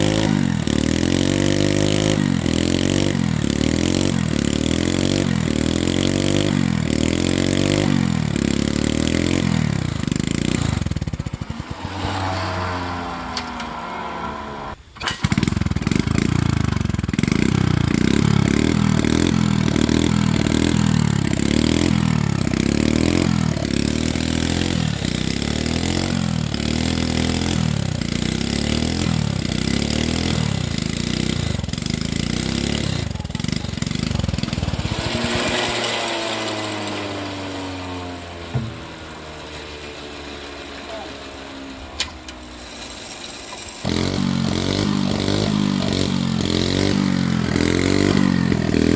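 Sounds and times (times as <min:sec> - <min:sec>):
small engine running hard: 0:00.0 - 0:48.9.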